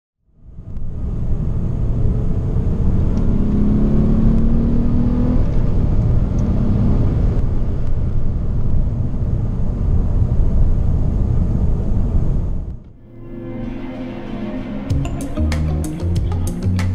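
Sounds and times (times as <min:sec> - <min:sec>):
engine and road noise rumble: 0:00.2 - 0:16.9
car engine accelerating: 0:00.4 - 0:16.9.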